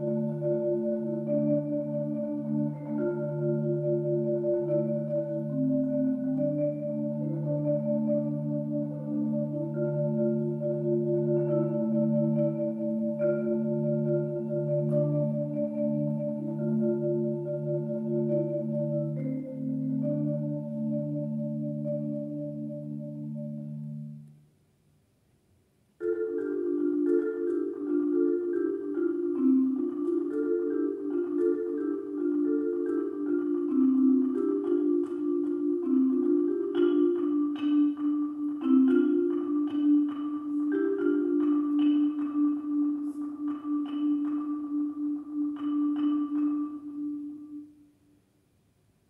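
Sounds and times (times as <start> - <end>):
marimba played with mallets: 0.0 - 24.2, 26.0 - 47.8.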